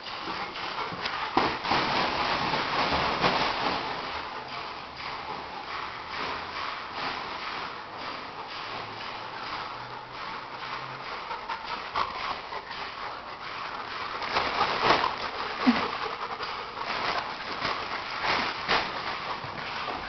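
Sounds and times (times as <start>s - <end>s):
dog breathing and snuffling: 0.0s - 20.0s
dogs scuffling: 0.0s - 20.0s
paws clicking on tile: 0.0s - 20.0s.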